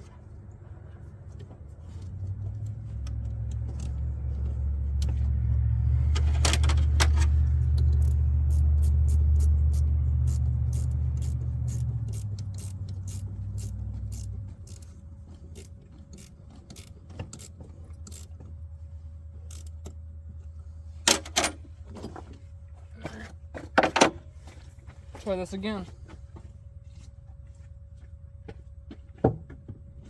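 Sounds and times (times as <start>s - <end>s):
diesel engine rumbling: 0.0s - 29.2s.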